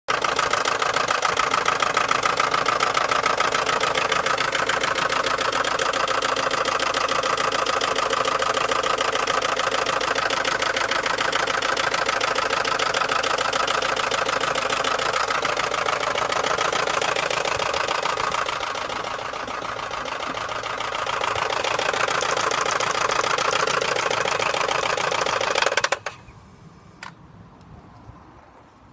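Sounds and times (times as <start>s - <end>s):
car engine knocking: 0.1s - 26.2s.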